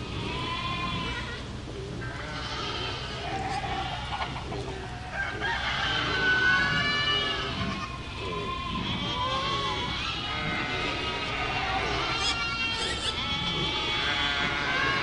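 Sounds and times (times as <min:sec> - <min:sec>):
farmyard animals calling: 0:00.0 - 0:15.0.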